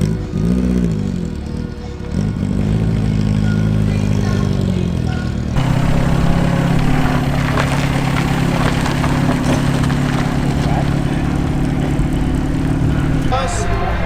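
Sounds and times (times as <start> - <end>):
car engine running: 0.0 - 14.0
rough engine sound: 0.0 - 14.0.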